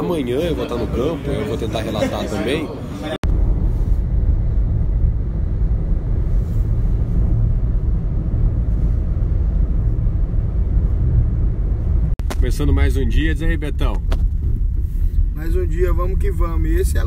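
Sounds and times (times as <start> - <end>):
car engine and road noise: 2.5 - 17.0.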